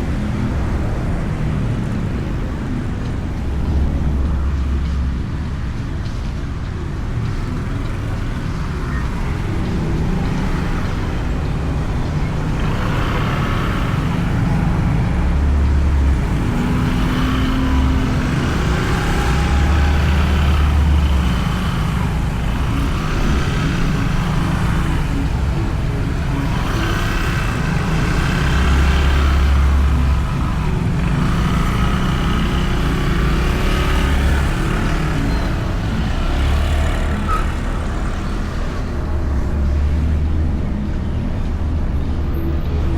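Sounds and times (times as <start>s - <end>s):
motorbike engine rumble: 0.0s - 42.9s
road traffic: 0.0s - 42.9s.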